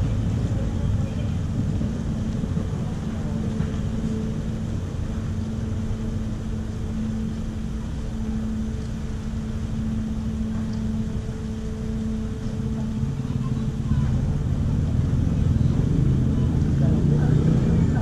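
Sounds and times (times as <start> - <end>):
ferry diesel engine drone: 0.0 - 18.0.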